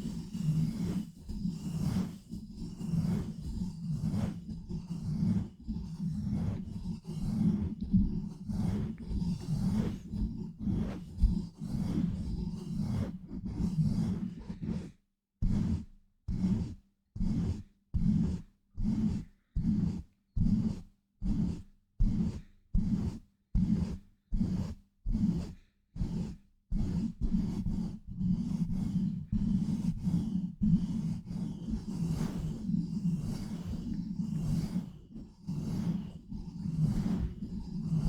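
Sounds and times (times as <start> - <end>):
rubbing and scratching on mic: 0.0 - 15.0, 18.0 - 24.6, 25.2 - 38.0.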